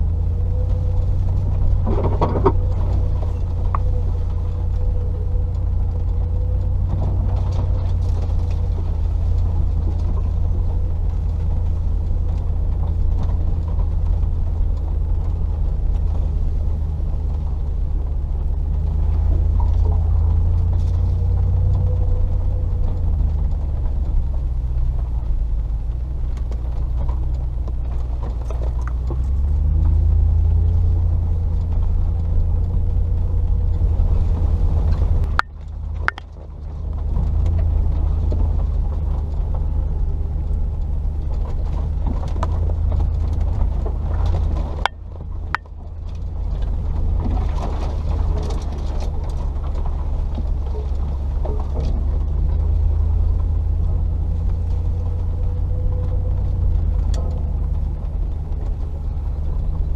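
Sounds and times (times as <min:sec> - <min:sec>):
car engine drone: 0:00.0 - 0:59.9.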